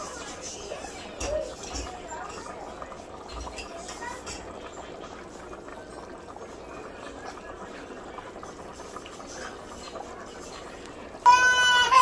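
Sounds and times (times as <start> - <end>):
soup simmering and bubbling: 0.0 - 12.0.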